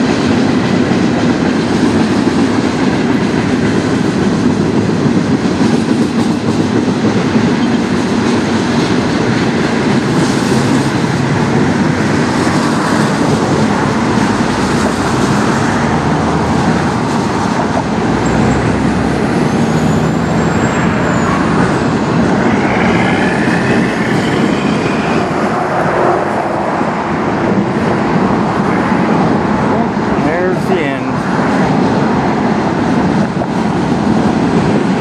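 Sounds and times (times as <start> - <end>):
steel wheels rumbling on rails: 0.0 - 35.0.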